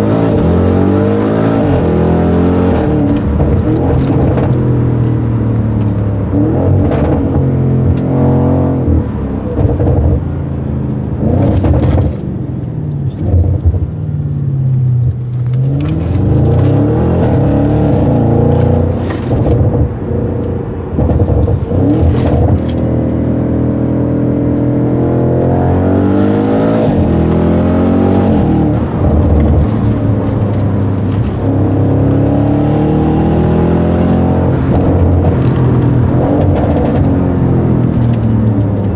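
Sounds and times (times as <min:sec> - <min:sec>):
car engine revving and accelerating: 0:00.0 - 0:38.9
exhaust crackles: 0:00.0 - 0:38.9.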